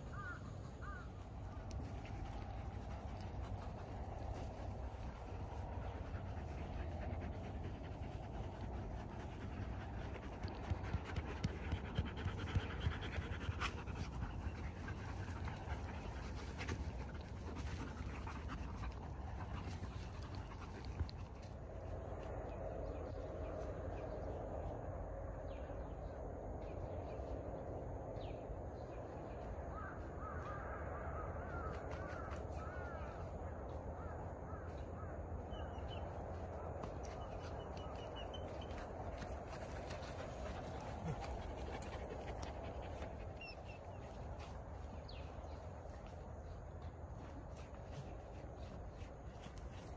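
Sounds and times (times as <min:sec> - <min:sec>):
dogs panting: 0:00.0 - 0:22.4, 0:31.4 - 0:49.9
dogs play-fighting: 0:00.1 - 0:22.4, 0:31.5 - 0:34.0, 0:34.6 - 0:49.9.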